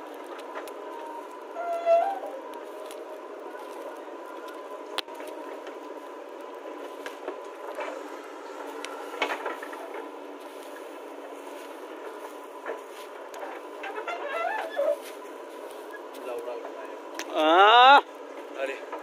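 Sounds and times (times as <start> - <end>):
backhoe loader engine hum: 0.0 - 19.0.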